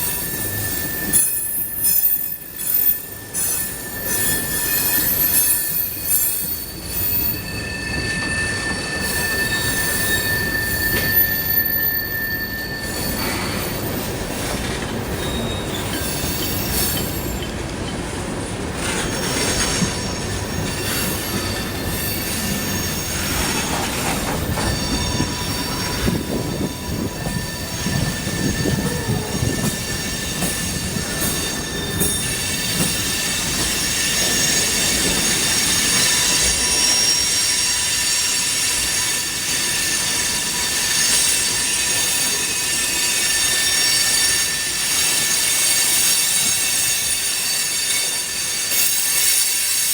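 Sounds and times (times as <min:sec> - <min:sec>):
train cars rumbling and clattering: 0:00.0 - 0:49.9
train wheels screeching on rails: 0:00.0 - 0:49.9.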